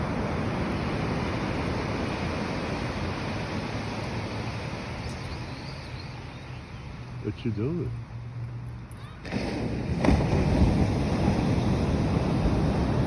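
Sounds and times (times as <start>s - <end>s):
ocean surf rushing: 0.0s - 7.8s, 9.1s - 13.0s
wind: 0.0s - 13.0s.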